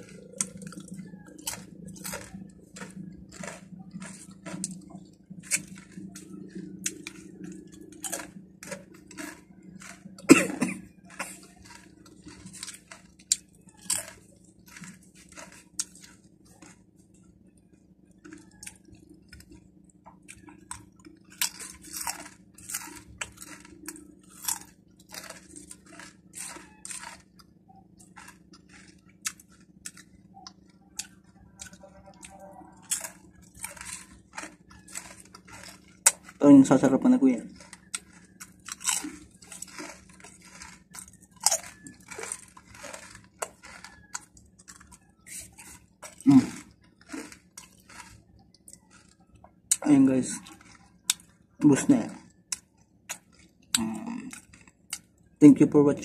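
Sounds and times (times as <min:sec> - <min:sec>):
crunching and chewing chips: 0:00.0 - 0:56.0.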